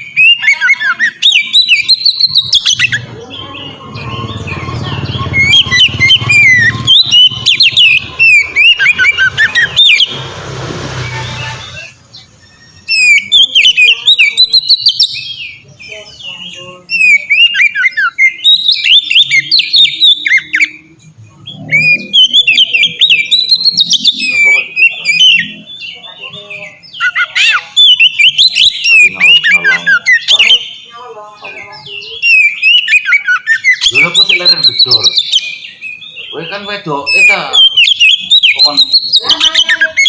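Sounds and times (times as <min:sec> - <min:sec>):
bird singing whistled phrases: 0:00.0 - 0:10.2, 0:11.0 - 0:40.0.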